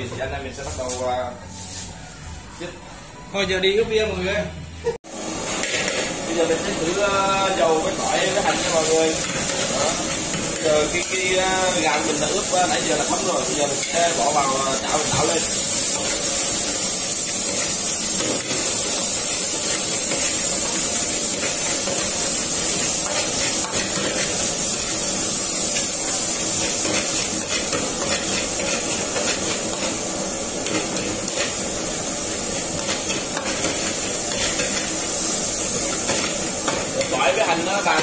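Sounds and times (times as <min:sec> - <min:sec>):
garlic and onion sizzling in oil: 0:05.1 - 0:38.0.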